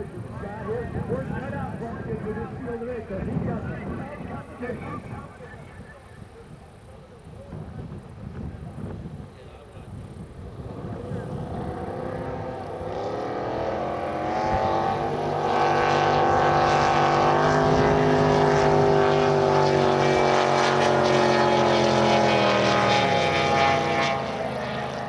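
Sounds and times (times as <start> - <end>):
jet boat engines blaring: 0.0 - 25.0.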